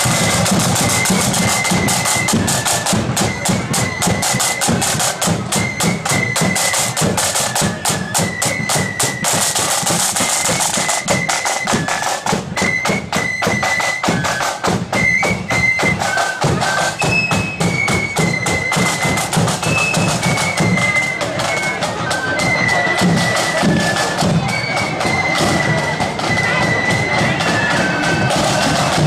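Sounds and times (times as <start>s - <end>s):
flute melody: 0.0s - 29.0s
side drums beating: 0.0s - 29.0s.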